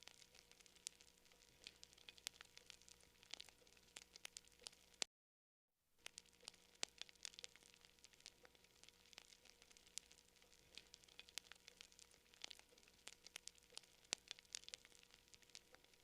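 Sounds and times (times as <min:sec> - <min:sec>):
campfire crackling: 0:00.0 - 0:05.1, 0:06.0 - 0:16.0.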